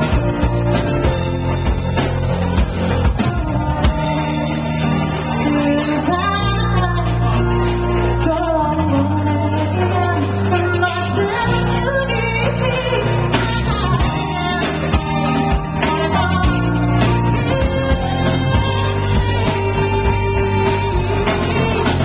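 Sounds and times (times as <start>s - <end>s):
drum kit: 0.0s - 22.0s
electric bass: 0.0s - 22.0s
keyboard: 0.0s - 22.0s
woman singing: 3.0s - 22.0s.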